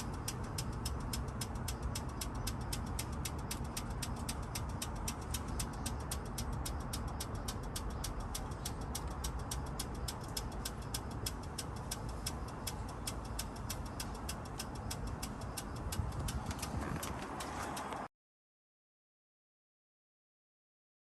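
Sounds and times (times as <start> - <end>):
motorcycle engine idling: 0.0 - 17.9
fast regular ticking: 0.0 - 18.1.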